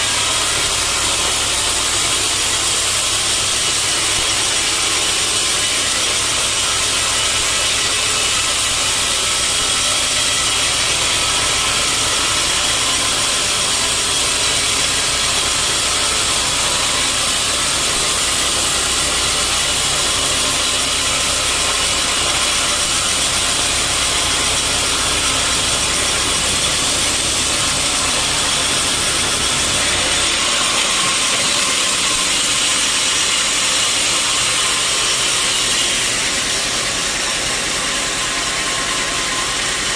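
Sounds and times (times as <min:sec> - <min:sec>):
motor humming: 0:00.0 - 0:39.9
sawmill blade cutting log: 0:00.0 - 0:39.9.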